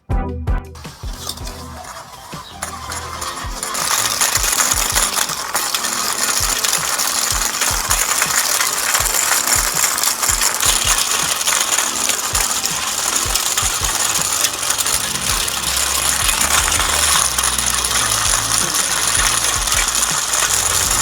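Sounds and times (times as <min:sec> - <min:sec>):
roller rattling: 0:00.8 - 0:21.0
small electric motor running: 0:00.8 - 0:21.0.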